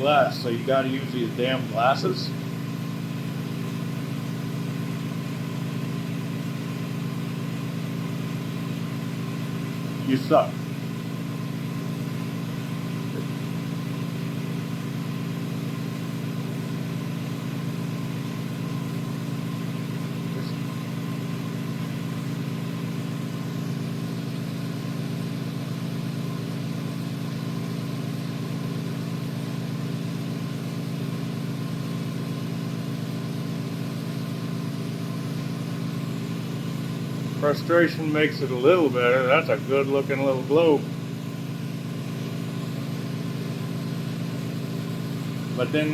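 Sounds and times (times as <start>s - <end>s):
mechanical hum with low drone: 0.0s - 45.9s.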